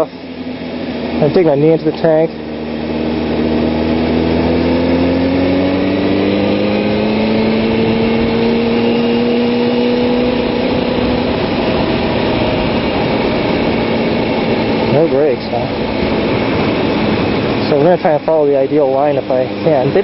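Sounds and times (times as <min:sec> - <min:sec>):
motorcycle engine pulling: 0:00.0 - 0:20.0
wind rush: 0:02.4 - 0:20.0.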